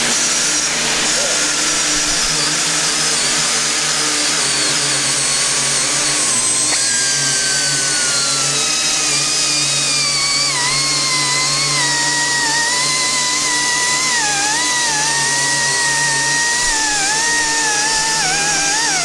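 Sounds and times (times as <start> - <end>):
air die grinders whining: 0.0 - 19.0.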